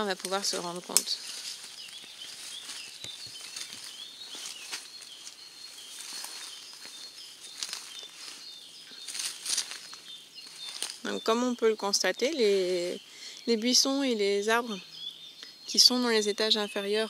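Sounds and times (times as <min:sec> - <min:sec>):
leaves pattering and rustling: 0:00.0 - 0:14.8
faint high chirps: 0:00.0 - 0:17.0.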